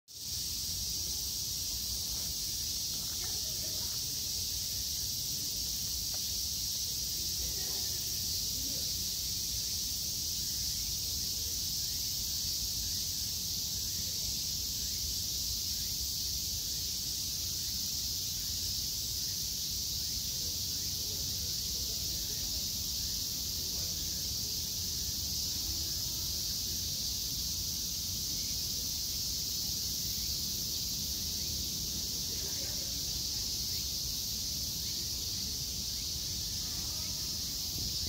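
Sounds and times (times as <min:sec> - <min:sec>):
cicadas buzzing: 0:00.1 - 0:38.0.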